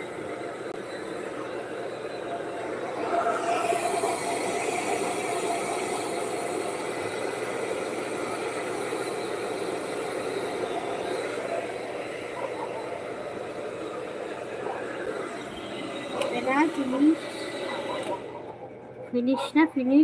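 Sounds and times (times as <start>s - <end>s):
hair dryer running: 0.0s - 18.6s.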